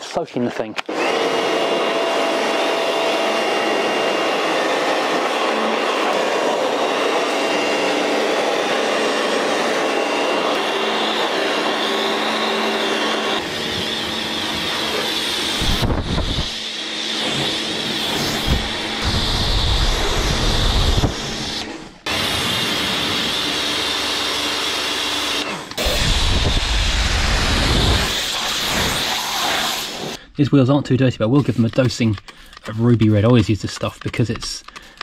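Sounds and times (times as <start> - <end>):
pressure washer pump whining: 0.8 - 30.2.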